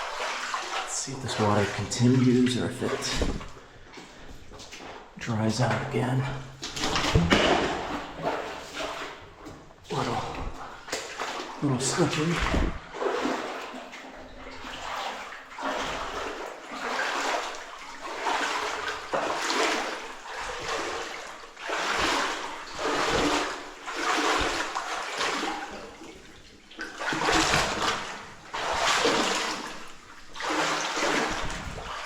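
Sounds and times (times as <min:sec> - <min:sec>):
footsteps wading through water: 0:00.0 - 0:32.0.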